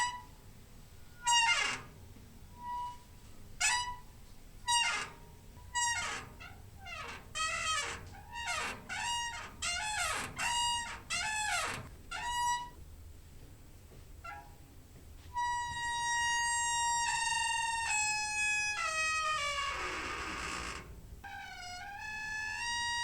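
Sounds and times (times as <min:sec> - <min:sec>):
door hinge squeaking: 0:01.2 - 0:12.8, 0:14.2 - 0:14.6, 0:15.4 - 0:23.0.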